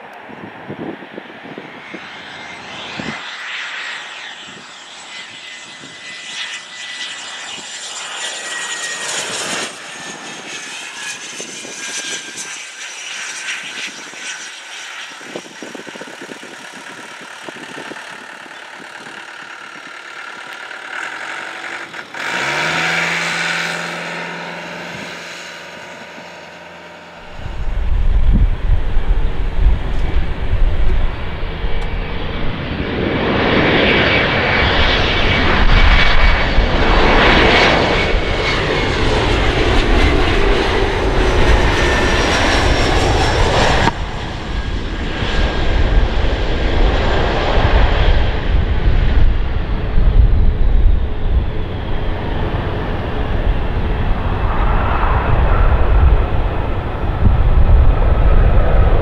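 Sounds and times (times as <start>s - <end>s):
jet engine whine: 0.0s - 59.0s
jet engines landing: 0.0s - 59.0s.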